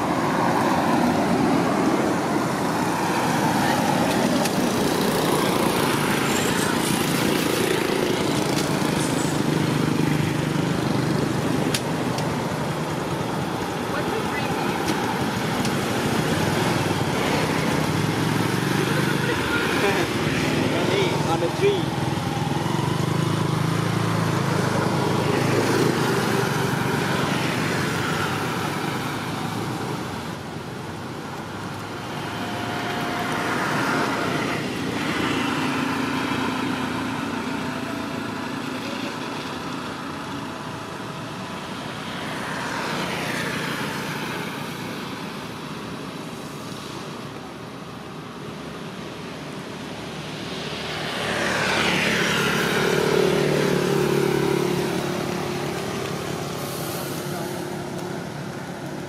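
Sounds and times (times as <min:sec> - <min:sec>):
vehicles passing on wet road: 0:00.0 - 0:59.0.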